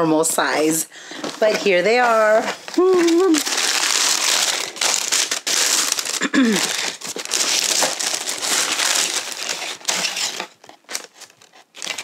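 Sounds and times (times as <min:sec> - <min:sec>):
tissue paper rustling and crinkling: 0:01.2 - 0:12.0.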